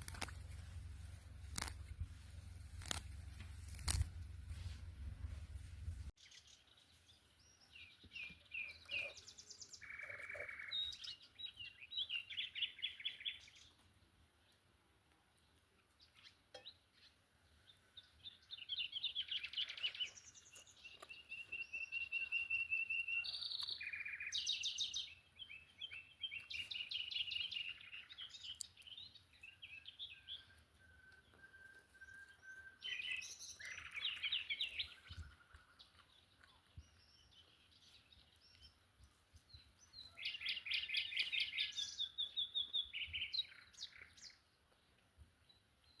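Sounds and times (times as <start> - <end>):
songbirds trilling: 6.2 - 13.8, 16.0 - 46.0.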